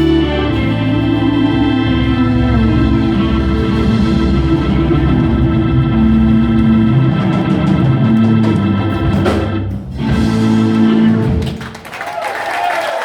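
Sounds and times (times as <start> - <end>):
band music with organ chords: 0.0 - 11.9.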